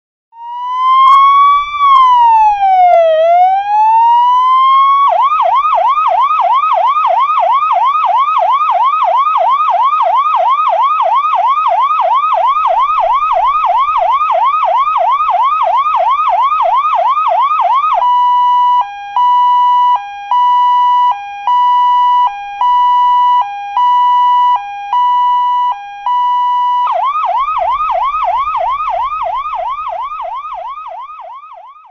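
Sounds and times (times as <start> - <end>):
emergency siren changing modes: 0.3 - 31.9.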